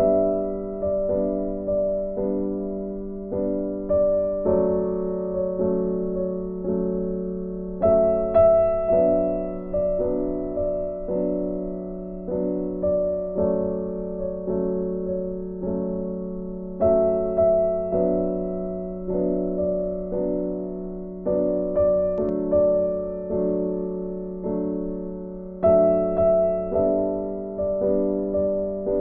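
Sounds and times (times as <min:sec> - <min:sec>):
slow gentle piano piece: 0:00.0 - 0:29.0.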